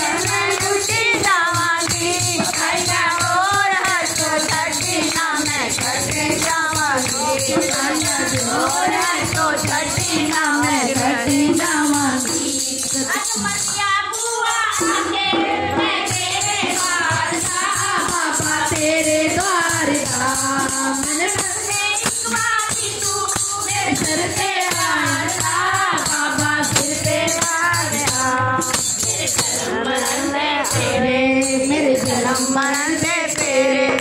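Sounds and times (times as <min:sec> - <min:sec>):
rhythmic handclapping: 0:00.0 - 0:15.2, 0:15.8 - 0:34.0
dholak drum: 0:00.0 - 0:34.0
women singing together: 0:00.0 - 0:34.0.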